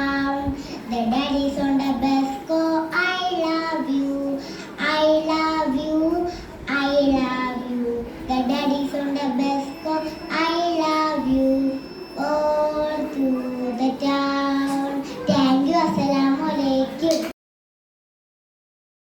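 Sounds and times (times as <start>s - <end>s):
girl singing: 0.0s - 17.3s.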